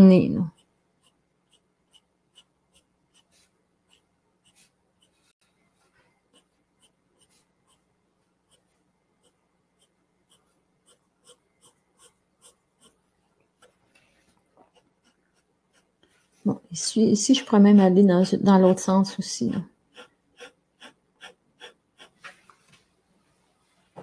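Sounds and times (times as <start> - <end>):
pencil scratching on paper: 0.0 - 22.4.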